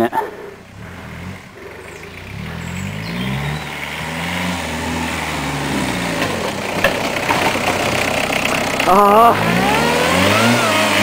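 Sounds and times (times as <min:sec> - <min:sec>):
diesel car engine revving: 0:00.0 - 0:11.0.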